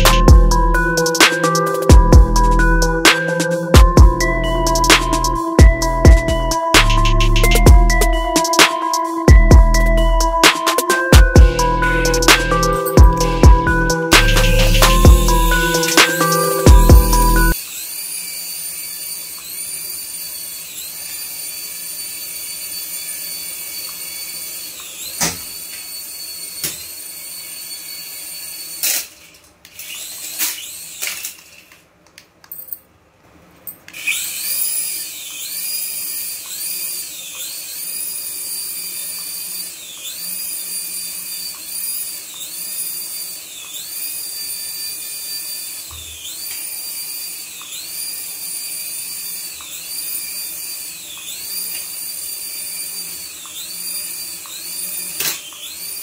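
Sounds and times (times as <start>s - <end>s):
toy helicopter rotor motors whining: 0.0s - 31.8s, 33.9s - 56.0s.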